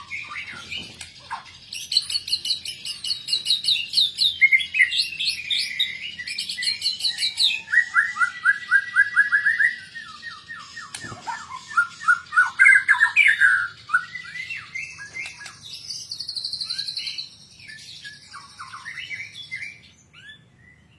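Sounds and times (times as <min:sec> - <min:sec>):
songbird singing varied song: 0:00.0 - 0:20.9.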